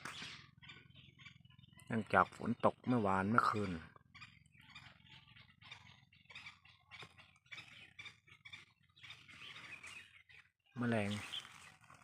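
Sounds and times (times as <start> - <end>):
chickens and birds chirping: 0.0 - 12.0.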